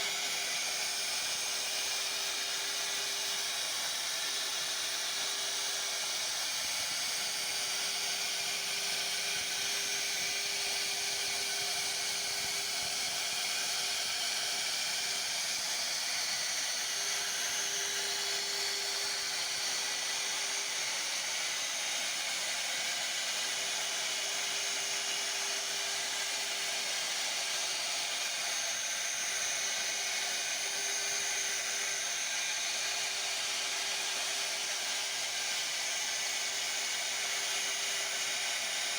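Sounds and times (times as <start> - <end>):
router spindle cutting wood: 0.0 - 38.9.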